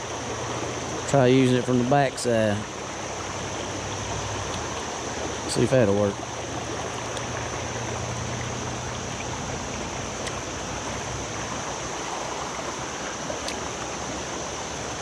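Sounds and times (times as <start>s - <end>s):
river water running over riffle: 0.0s - 15.0s.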